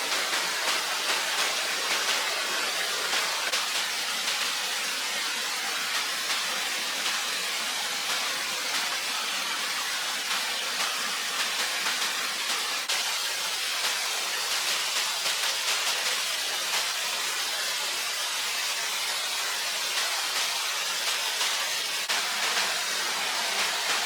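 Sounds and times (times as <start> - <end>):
running water rushing: 0.0 - 24.0.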